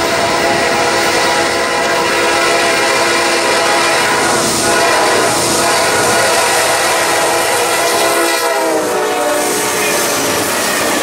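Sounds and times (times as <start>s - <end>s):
locomotive air horn chord: 0.0s - 11.0s
train rumble: 0.0s - 11.0s.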